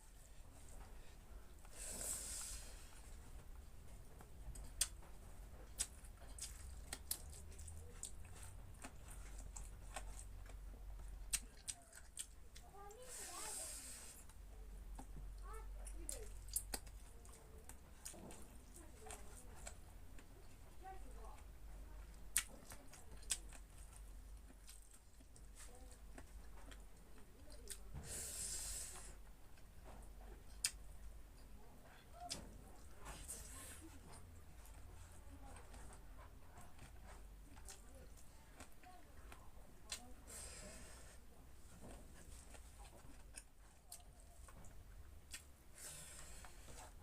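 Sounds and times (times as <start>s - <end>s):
faint low hum: 0.0s - 47.0s
person chewing with lip-smacks: 4.2s - 20.3s, 22.1s - 47.0s.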